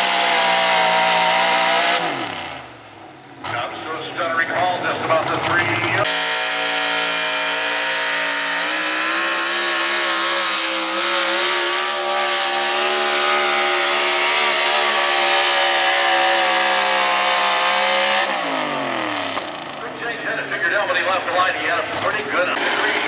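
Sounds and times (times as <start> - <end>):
truck engine at high revs: 0.0 - 23.0.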